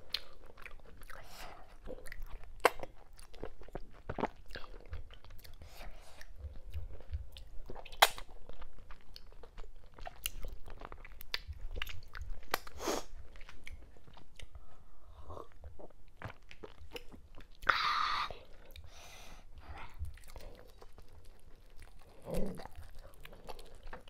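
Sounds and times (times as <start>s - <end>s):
person chewing with mouth clicks: 0.0s - 24.0s.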